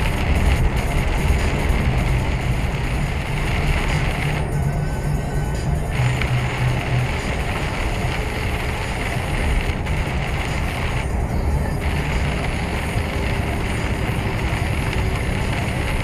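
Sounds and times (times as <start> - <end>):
lorry engine drone: 0.0 - 16.0
road noise: 0.0 - 16.0.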